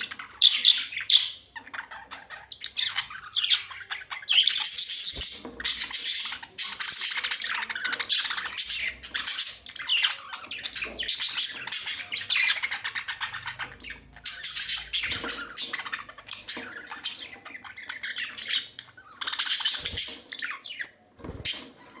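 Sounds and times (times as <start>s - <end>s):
budgerigars chattering and squawking: 0.0s - 22.0s.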